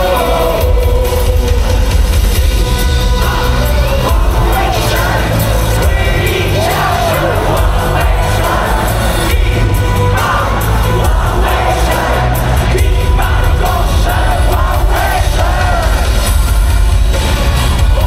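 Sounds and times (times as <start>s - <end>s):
person singing: 0.0s - 16.8s
crowd voices: 0.0s - 18.0s
heavy bass: 0.0s - 18.0s
pop-rock band playing: 0.0s - 18.0s.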